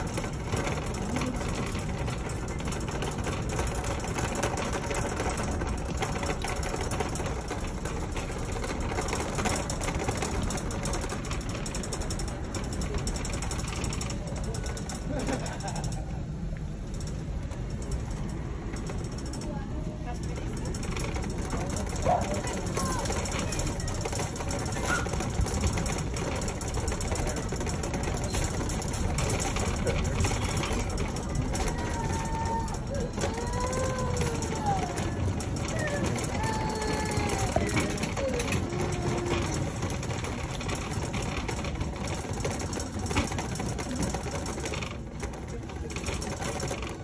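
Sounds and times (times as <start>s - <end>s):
shopping cart wheels rattling: 0.0s - 47.0s.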